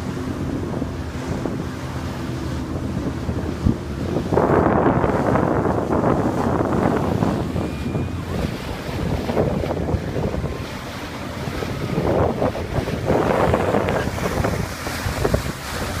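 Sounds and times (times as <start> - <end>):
lake water and waves: 0.0 - 16.0
wind buffeting microphone: 0.0 - 16.0.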